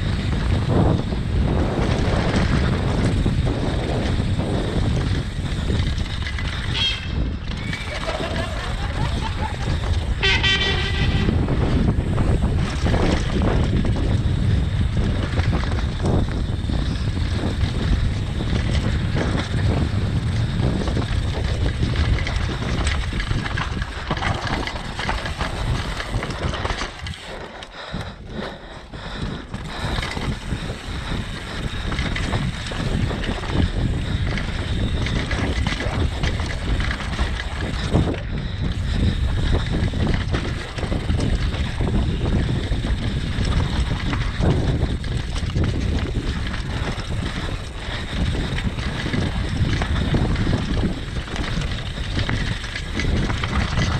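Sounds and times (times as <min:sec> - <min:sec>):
bike rattling over bumps: 0:00.0 - 0:53.9
bike tyres rumbling on dirt: 0:00.0 - 0:53.9
wind buffeting microphone: 0:00.0 - 0:53.9.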